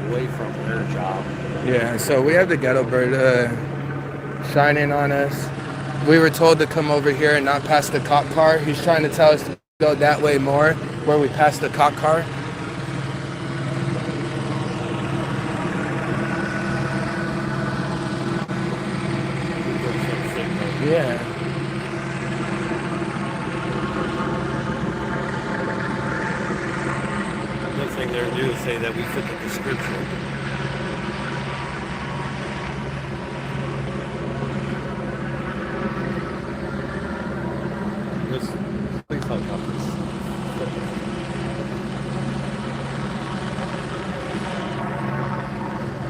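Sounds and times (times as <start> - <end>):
helicopter hovering: 0.0 - 46.0.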